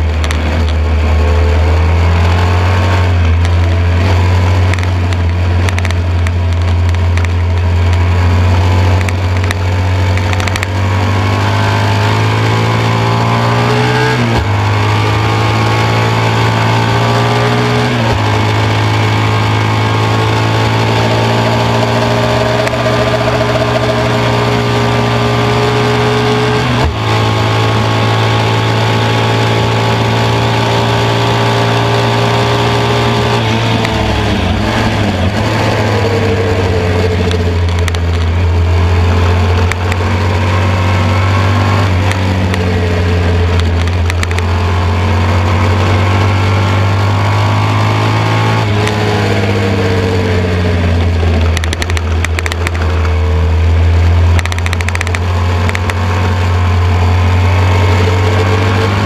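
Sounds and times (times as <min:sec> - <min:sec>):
racing engine accelerating hard: 0:00.0 - 0:59.0.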